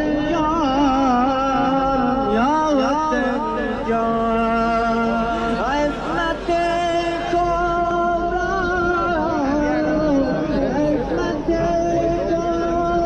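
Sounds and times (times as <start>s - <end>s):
person singing slow chant: 0.0s - 13.0s.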